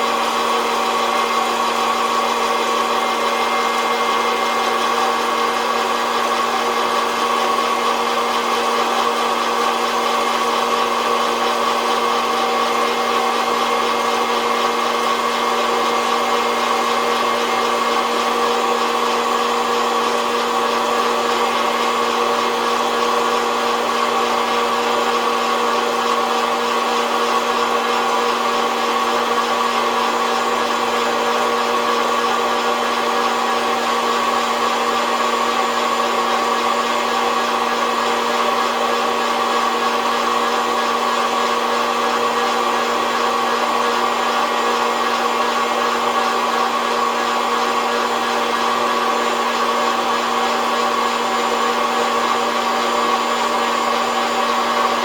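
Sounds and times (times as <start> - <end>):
coffee roaster fan motor humming: 0.0 - 55.0.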